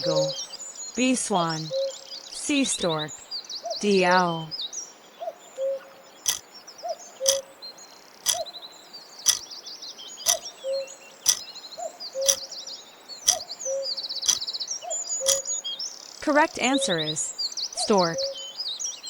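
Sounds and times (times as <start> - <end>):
small birds chirping and trilling: 0.0 - 19.0.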